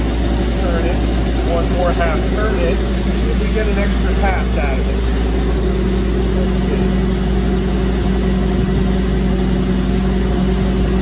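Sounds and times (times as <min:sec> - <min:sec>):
engine idling hum: 0:00.0 - 0:11.0.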